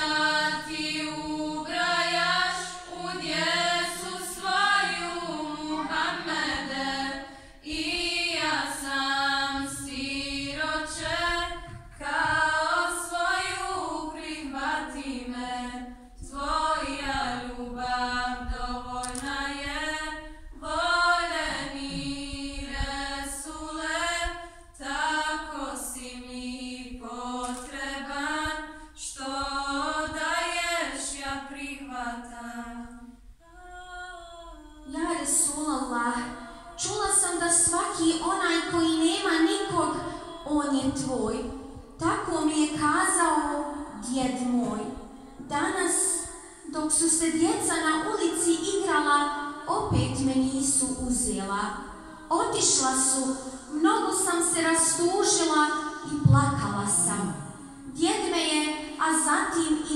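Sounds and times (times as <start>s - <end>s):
women's choir singing a cappella: 0.0s - 59.9s.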